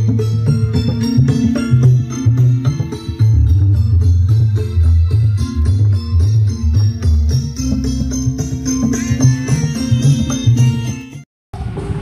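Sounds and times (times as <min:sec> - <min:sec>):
loud music with heavy bass: 0:00.0 - 0:11.2.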